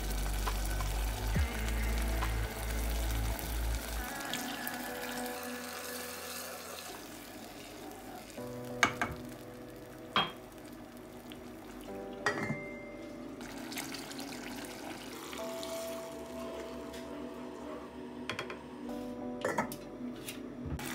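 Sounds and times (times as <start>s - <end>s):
sauce simmering and sizzling: 0.0s - 12.2s, 13.0s - 17.7s.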